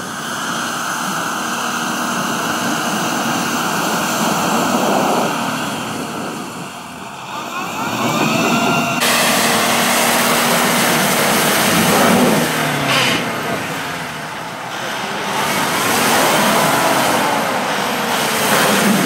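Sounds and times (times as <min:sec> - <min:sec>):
pickup engine revving hard: 0:00.0 - 0:19.0
suv engine revving: 0:00.0 - 0:19.0
wheels spinning in mud: 0:00.0 - 0:19.0.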